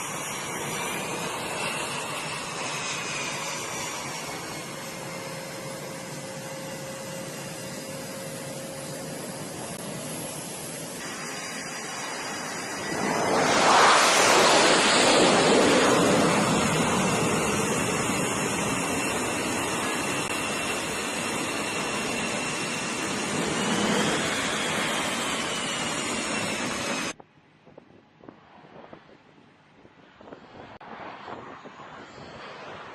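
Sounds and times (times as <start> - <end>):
jet engines rushing and whining: 0.0 - 27.2, 29.8 - 32.9.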